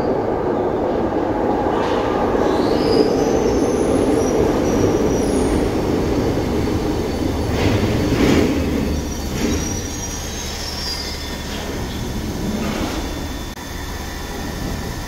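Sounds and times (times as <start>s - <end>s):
train wheels rumbling on rails: 0.0s - 15.0s
high wheel squeals: 1.8s - 15.0s.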